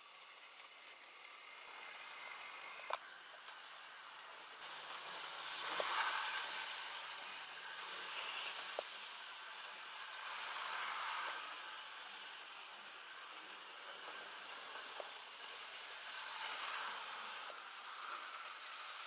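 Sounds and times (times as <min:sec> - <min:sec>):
model train rumbling past: 0:00.0 - 0:19.0.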